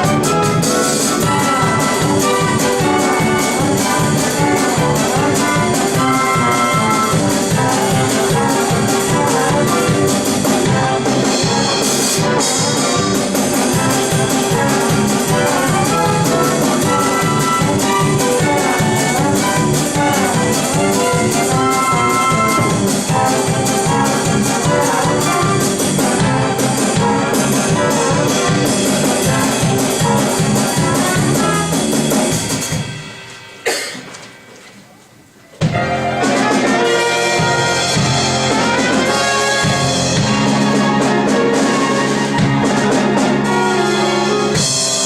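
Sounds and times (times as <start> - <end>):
brassy orchestral show music: 0.0 - 33.9, 35.6 - 45.0.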